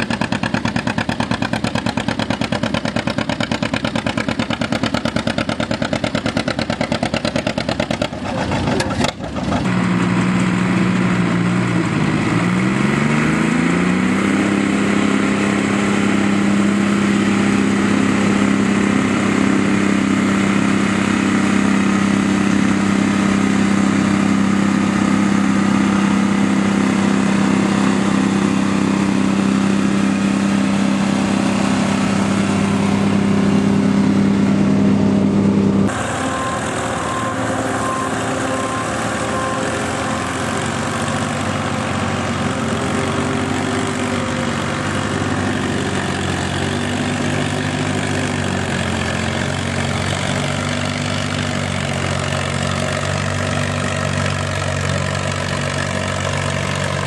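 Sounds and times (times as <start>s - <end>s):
quieter tractor engine running: 0.0s - 57.0s
tractor engine under load: 0.0s - 57.0s.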